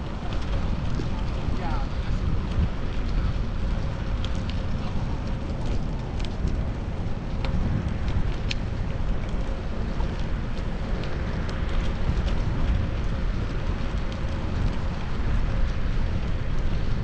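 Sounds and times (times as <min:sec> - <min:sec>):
bicycle road rumble: 0:00.0 - 0:17.0
faint clicks and ticks: 0:00.0 - 0:17.0
wind rushing over microphone: 0:00.0 - 0:17.0.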